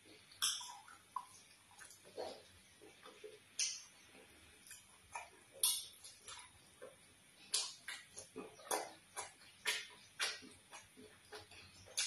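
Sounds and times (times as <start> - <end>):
person chewing: 0.0 - 12.0
lip smacks: 0.3 - 4.0, 4.6 - 12.0.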